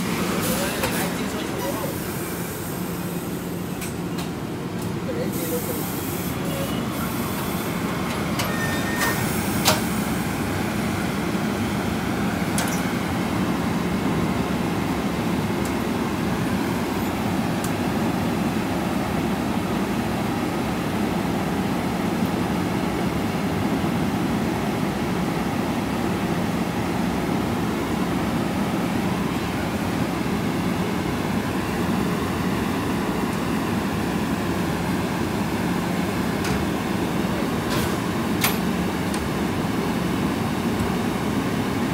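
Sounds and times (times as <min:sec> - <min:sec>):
train drone: 0:00.0 - 0:41.9.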